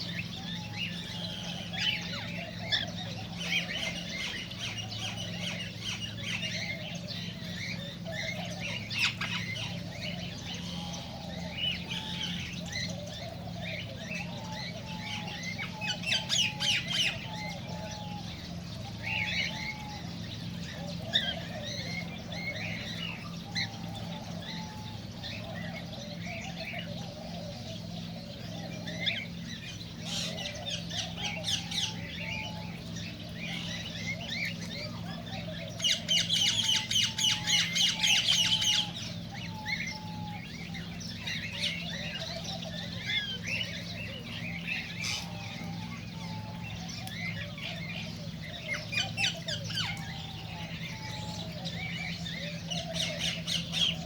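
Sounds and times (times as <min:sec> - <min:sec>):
cockatiels chirping and squawking: 0:00.0 - 0:27.2, 0:28.3 - 0:54.0.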